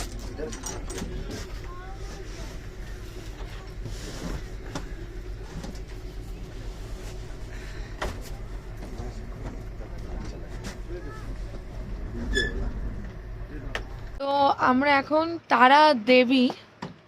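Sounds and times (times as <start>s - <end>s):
train rumbling: 0.0s - 15.2s
faint steady hum: 0.0s - 16.7s.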